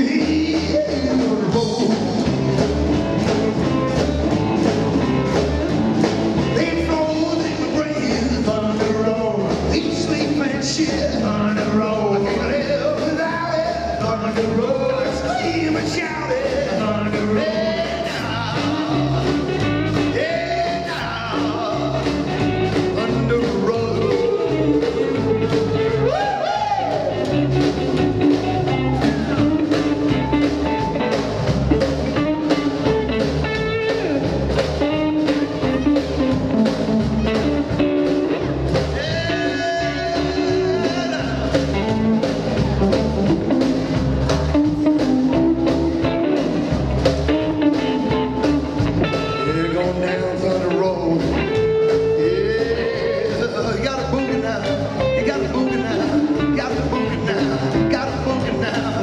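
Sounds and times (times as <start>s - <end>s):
drums: 0.0s - 59.0s
electric guitar: 0.0s - 59.0s
slapped upright double bass: 0.0s - 59.0s.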